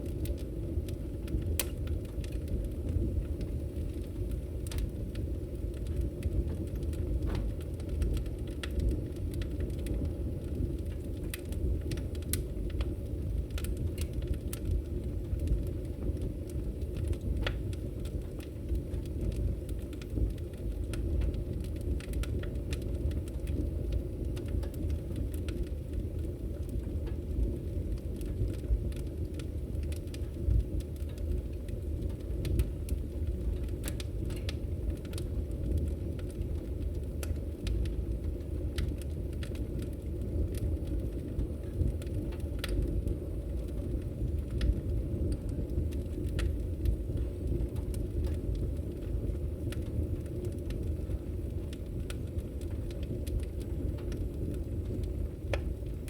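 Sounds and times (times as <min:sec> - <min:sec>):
fire pops and snaps: 0:00.0 - 0:56.0
low rumble of burning flames: 0:00.0 - 0:56.0.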